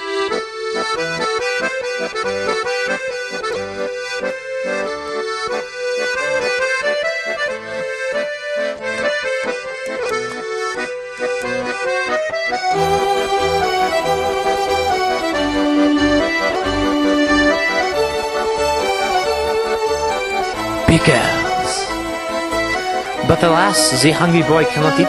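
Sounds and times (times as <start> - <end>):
accordion chords: 0.0 - 25.0.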